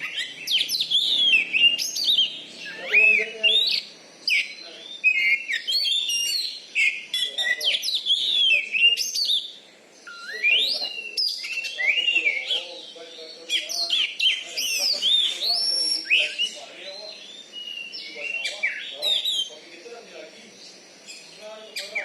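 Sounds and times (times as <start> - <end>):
bird singing whistled notes: 0.0 - 22.0.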